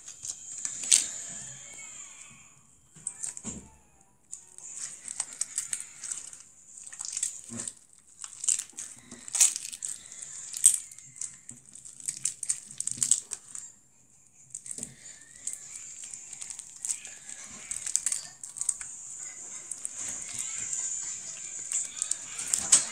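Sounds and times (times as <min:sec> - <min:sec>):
slime crackling and popping: 0:00.0 - 0:01.8, 0:03.0 - 0:03.6, 0:04.3 - 0:13.7, 0:14.5 - 0:22.9.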